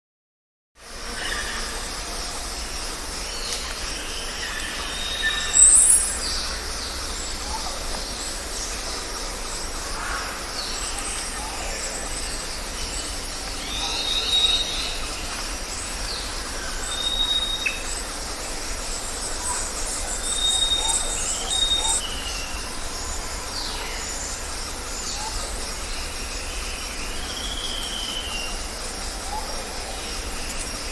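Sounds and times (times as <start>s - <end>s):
high background hiss: 0.8s - 30.9s
birds chirping: 4.2s - 30.9s.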